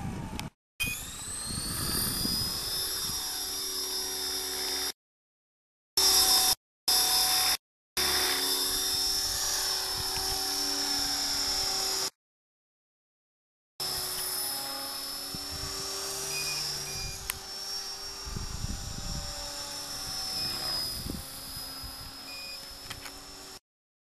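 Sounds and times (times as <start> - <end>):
rc helicopter motor whine: 0.0 - 5.0, 6.0 - 12.2, 13.8 - 23.6.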